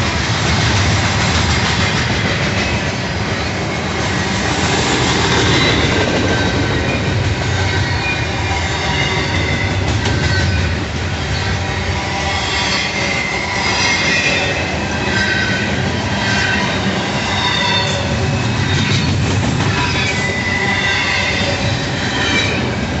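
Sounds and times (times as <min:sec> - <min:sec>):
freight train rumbling on rails: 0:00.0 - 0:23.0
sharp clacks of train: 0:00.0 - 0:23.0.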